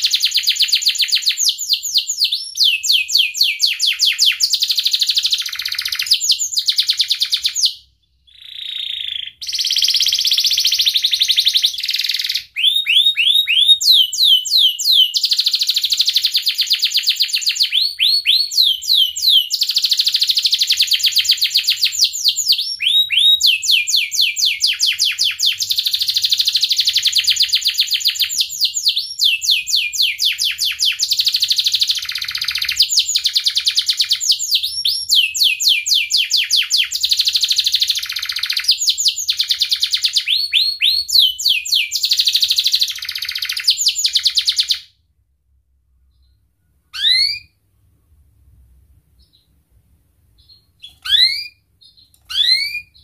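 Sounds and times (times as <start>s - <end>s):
canary singing trills: 0.0s - 44.9s, 46.0s - 47.6s, 50.3s - 53.0s.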